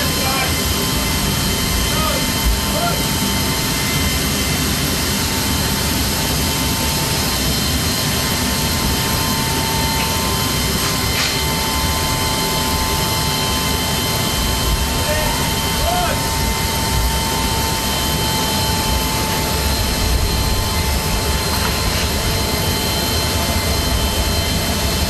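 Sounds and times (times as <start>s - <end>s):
jet turbine whining: 0.0s - 25.0s.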